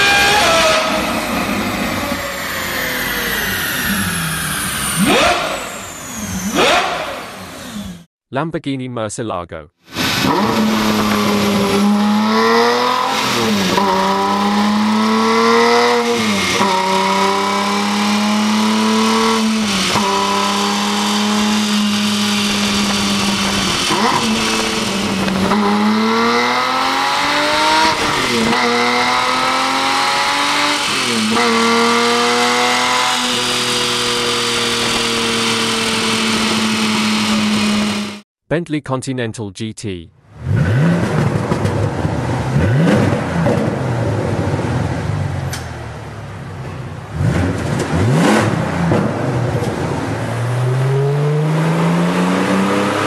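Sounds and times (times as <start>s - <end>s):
engine revving: 0.0s - 8.1s, 9.9s - 38.2s, 40.3s - 45.8s, 47.0s - 53.0s.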